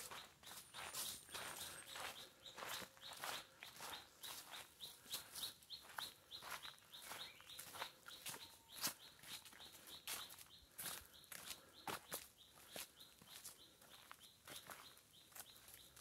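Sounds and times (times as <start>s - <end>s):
footsteps on dirt trail: 0.0s - 16.0s.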